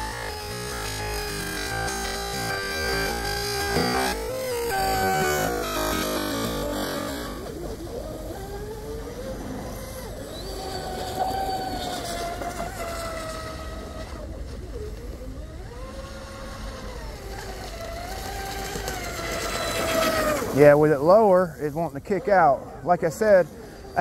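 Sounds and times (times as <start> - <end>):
model boat motor whining: 0.0 - 24.0.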